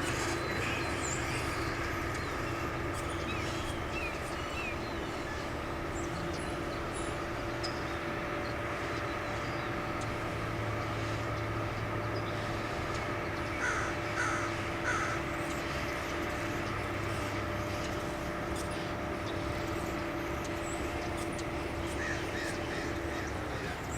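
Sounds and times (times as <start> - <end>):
harsh bird calls: 0.0 - 23.9
steady low hum: 0.0 - 23.9.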